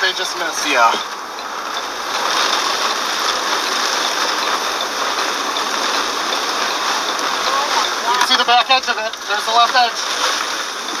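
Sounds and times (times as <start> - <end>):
rain on a vehicle: 0.0 - 11.0.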